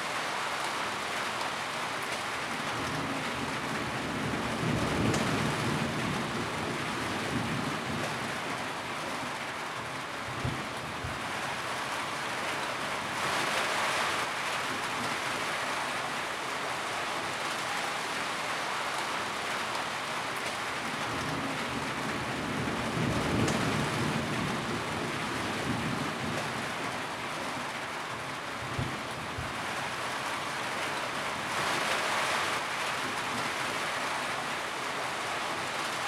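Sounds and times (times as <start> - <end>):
rain on a tin roof: 0.0 - 36.0.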